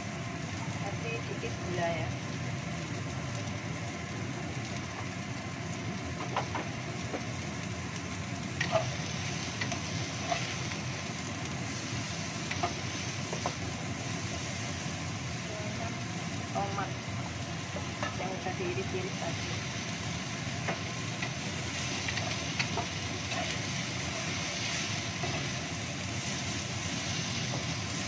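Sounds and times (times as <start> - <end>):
onions sizzling in a wok: 0.0 - 28.0.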